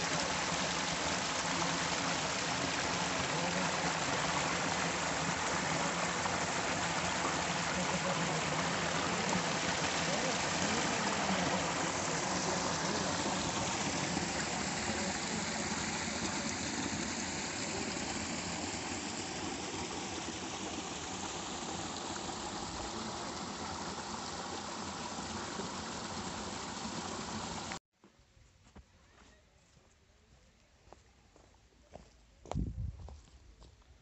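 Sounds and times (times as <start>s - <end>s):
stream rushing over rocks: 0.0s - 27.8s.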